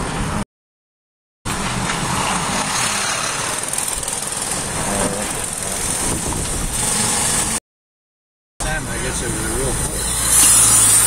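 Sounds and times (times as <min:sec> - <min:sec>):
car road and engine noise: 0:00.0 - 0:00.4, 0:01.5 - 0:07.6, 0:08.6 - 0:11.0.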